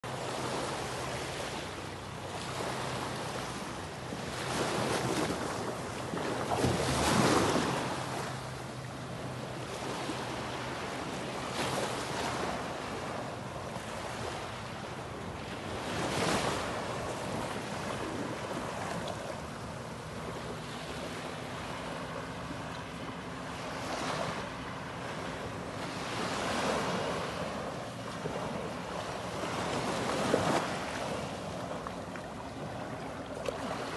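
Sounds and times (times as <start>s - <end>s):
ocean waves washing on beach: 0.1s - 33.9s.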